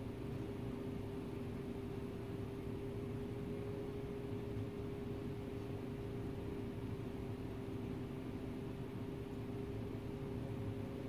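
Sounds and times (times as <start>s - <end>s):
room hum with faint tone: 0.0s - 11.0s.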